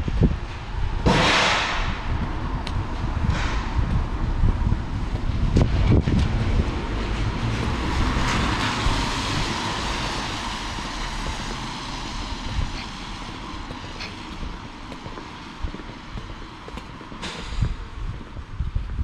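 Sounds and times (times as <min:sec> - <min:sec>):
steady street noise: 0:00.0 - 0:19.0
vehicle passing: 0:01.1 - 0:18.2.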